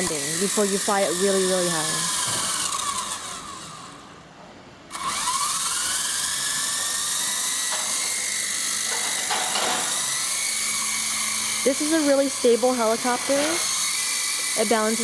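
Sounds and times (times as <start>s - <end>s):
toy helicopter rotor whine: 0.0s - 4.2s, 4.9s - 15.0s.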